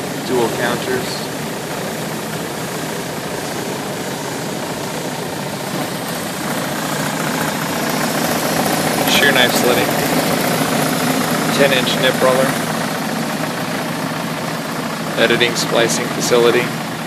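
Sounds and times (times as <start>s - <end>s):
machine rollers whirring: 0.0s - 17.0s.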